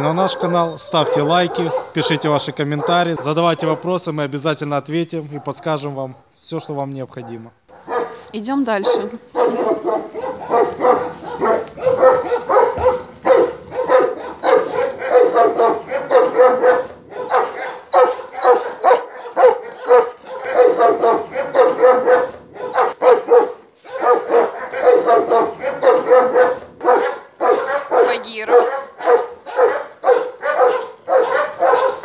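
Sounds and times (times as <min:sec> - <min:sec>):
dogs barking: 0:00.0 - 0:04.0, 0:05.2 - 0:06.0, 0:06.6 - 0:32.0.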